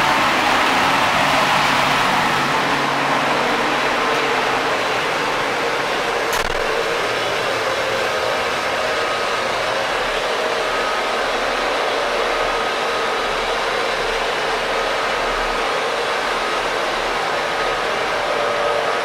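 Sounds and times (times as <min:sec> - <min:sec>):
engine room rushing hiss: 0:00.0 - 0:19.0.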